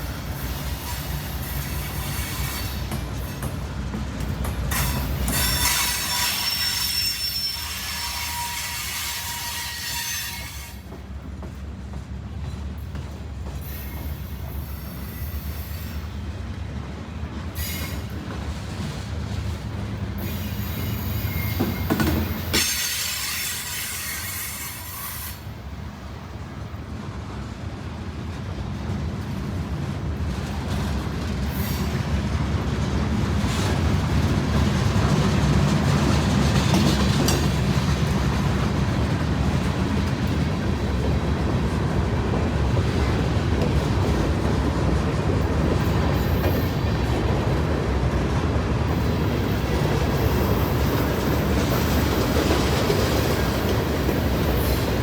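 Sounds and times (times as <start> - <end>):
wheels squealing on rails: 0.0 - 11.1, 12.4 - 16.3, 17.5 - 25.8, 30.3 - 32.5, 33.1 - 55.0
freight train rumble: 0.0 - 55.0.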